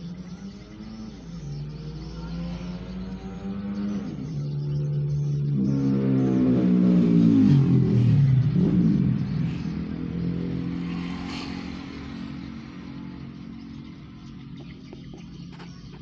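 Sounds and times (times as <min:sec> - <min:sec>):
motorcycles passing by: 0:00.0 - 0:16.0.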